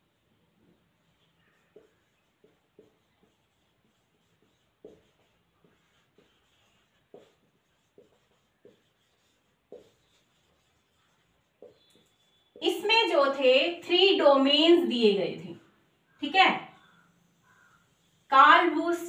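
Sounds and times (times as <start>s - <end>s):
marker writing on whiteboard: 0.0s - 19.0s.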